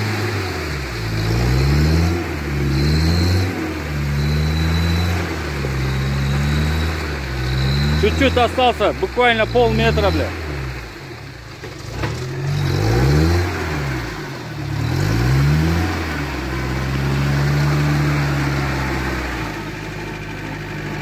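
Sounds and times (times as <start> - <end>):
van engine revving: 0.0 - 21.0.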